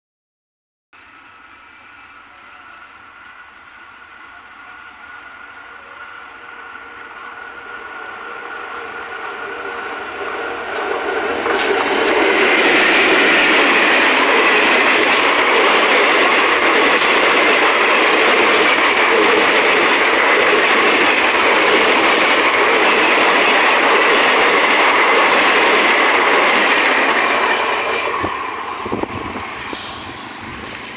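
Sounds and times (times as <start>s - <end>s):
train passing: 1.0s - 30.9s
wheels rushing on rails: 1.0s - 30.9s.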